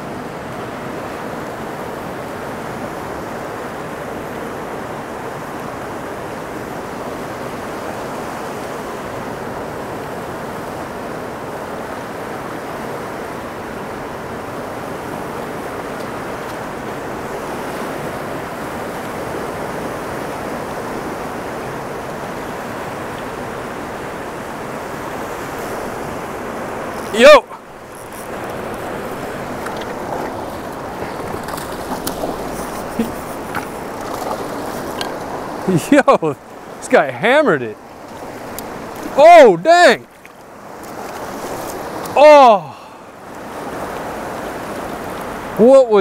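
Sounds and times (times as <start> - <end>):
river rushing over rocks: 0.0 - 46.0.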